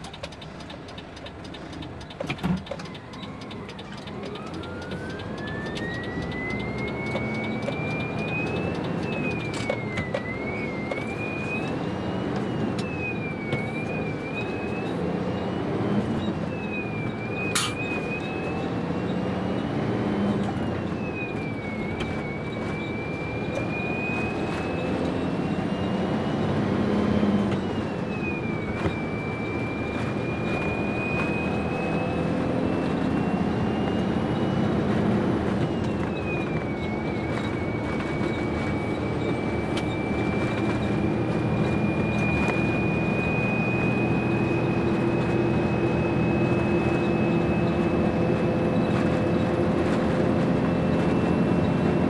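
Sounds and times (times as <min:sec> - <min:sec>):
diesel truck engine revving: 0:00.0 - 0:52.0
gearbox whine: 0:00.0 - 0:52.0.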